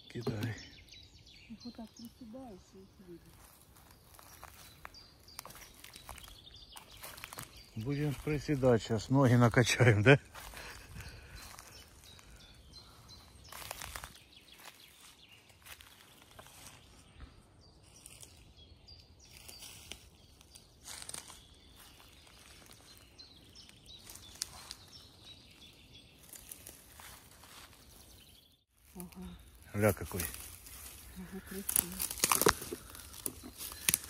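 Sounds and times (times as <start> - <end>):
faint bird chirps: 0.0 - 9.4, 10.3 - 34.0
dry leaves crackling underfoot: 1.7 - 9.4, 10.3 - 17.2, 17.8 - 34.0.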